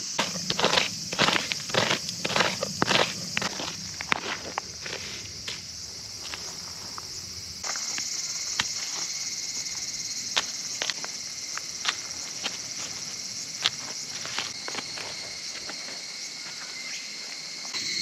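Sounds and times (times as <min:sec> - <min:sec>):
insect chorus: 0:00.0 - 0:18.0.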